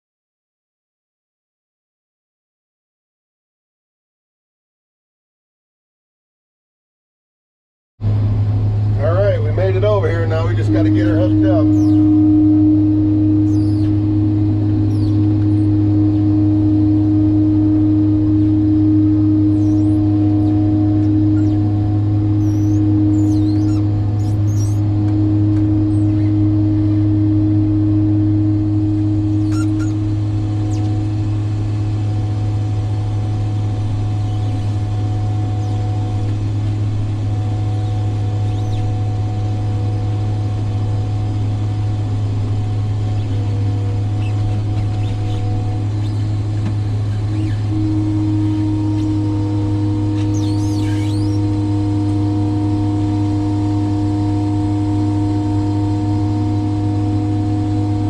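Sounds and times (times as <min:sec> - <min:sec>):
truck engine idling: 0:08.0 - 0:58.0.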